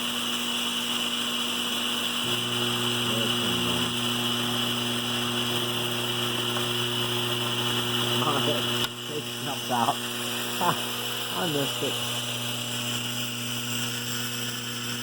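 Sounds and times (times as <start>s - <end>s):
vibrator mechanism buzzing: 1.9s - 15.0s.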